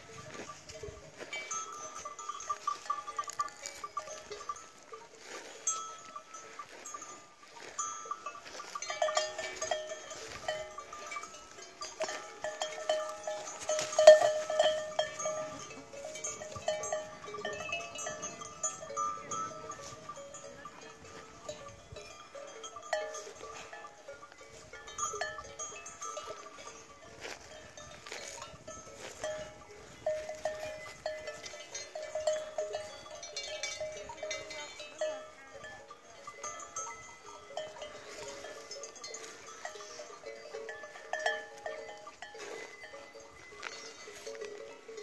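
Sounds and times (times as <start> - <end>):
cattle bells clinking: 0.0 - 45.0.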